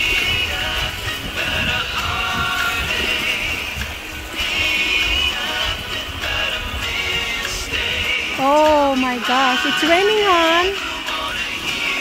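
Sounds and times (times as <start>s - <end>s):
music with high wavering melody: 0.0s - 12.0s.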